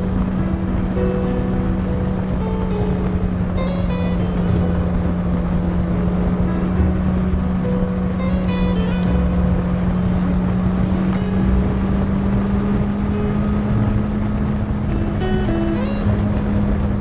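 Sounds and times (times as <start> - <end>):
motorcycle engine running: 0.0 - 17.0
wind rushing over camera: 0.0 - 17.0.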